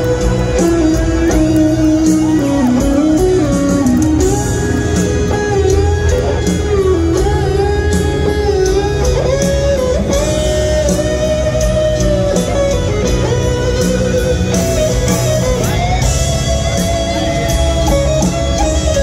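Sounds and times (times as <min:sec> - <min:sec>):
bass guitar: 0:00.0 - 0:19.0
drums: 0:00.0 - 0:19.0
electric guitar solo: 0:00.0 - 0:19.0
keyboard: 0:00.0 - 0:19.0.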